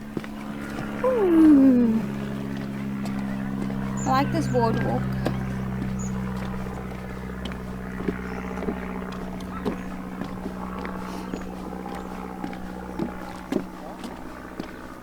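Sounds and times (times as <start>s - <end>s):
footsteps on wooden boardwalk: 0.0s - 15.0s
steady low hum: 0.0s - 15.0s.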